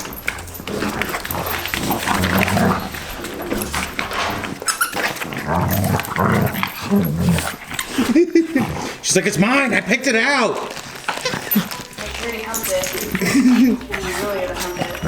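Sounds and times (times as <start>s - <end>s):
dogs growling in play: 0.0s - 15.0s.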